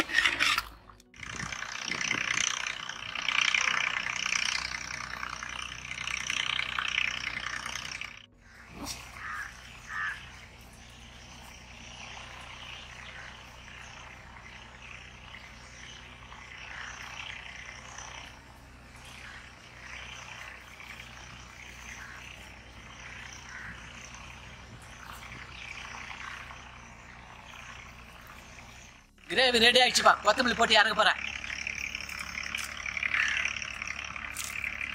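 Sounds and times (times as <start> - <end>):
chorus of small animals calling: 0.0 - 34.9
low steady hum: 0.0 - 34.9
louder animal calls: 1.2 - 29.3, 30.2 - 34.9.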